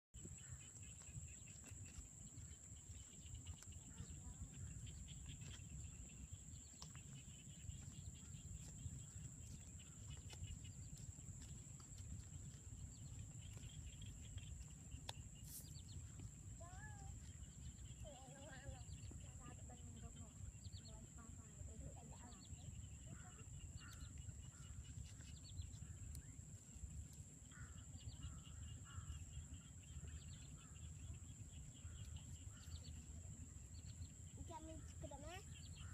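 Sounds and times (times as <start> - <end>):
faint chirps and clicks: 0.2 - 35.9.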